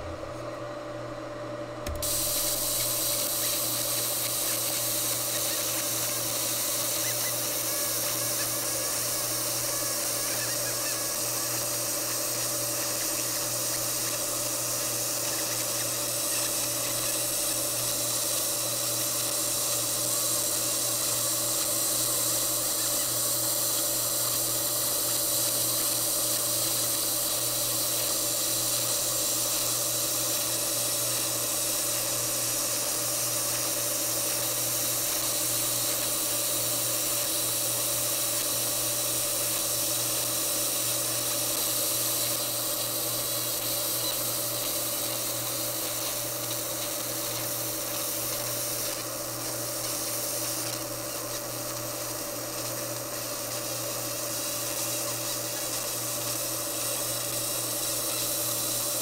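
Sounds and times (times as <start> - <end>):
low machine hum: 0.0 - 59.0
laser engraving hiss: 1.8 - 59.0.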